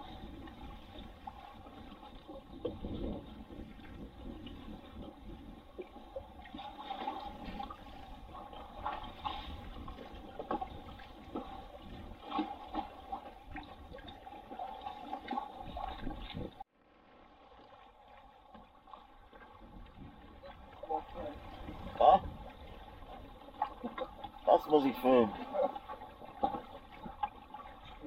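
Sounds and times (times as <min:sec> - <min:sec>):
bow wave slapping: 0:00.0 - 0:16.6, 0:17.4 - 0:28.0
water rushing along hull: 0:00.0 - 0:28.0.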